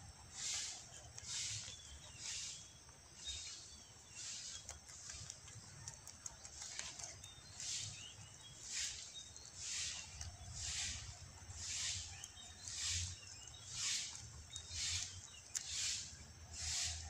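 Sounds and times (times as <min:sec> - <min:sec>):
soft hissing swishes: 0:00.0 - 0:04.7, 0:07.6 - 0:17.0
faint bird chirps: 0:00.0 - 0:17.0.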